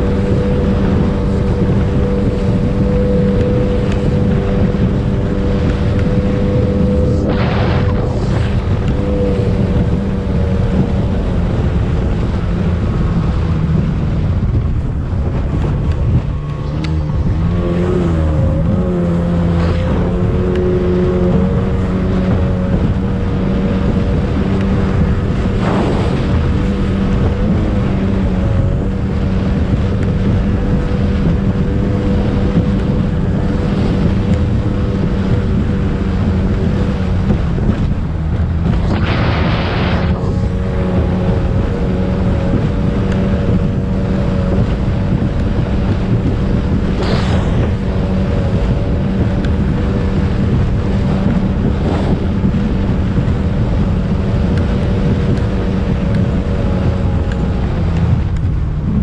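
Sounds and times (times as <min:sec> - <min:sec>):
hull thumping on waves: 0:00.0 - 0:59.0
speedboat engine running: 0:00.0 - 0:59.0
wind buffeting microphone: 0:00.0 - 0:59.0.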